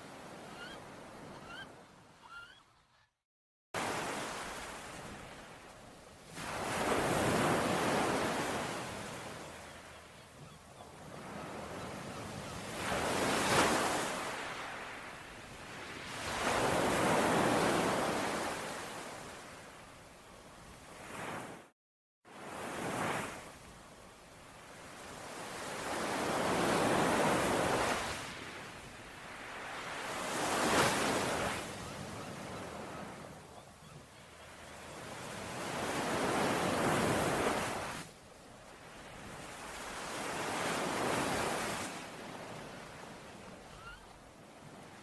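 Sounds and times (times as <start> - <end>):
ocean waves washing ashore: 3.8 - 21.7, 22.3 - 45.0.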